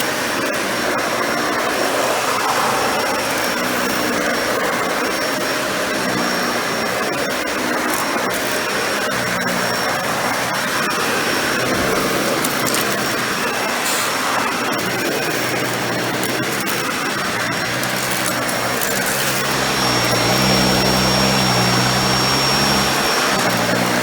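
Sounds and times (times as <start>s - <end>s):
upright vacuum running on rug: 0.0s - 24.0s.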